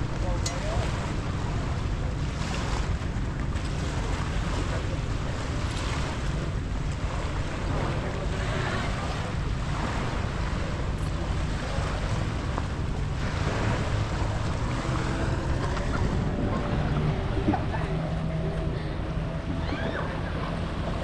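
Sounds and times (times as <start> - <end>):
surf washing on beach: 0.0 - 21.0
wind buffeting microphone: 0.0 - 21.0.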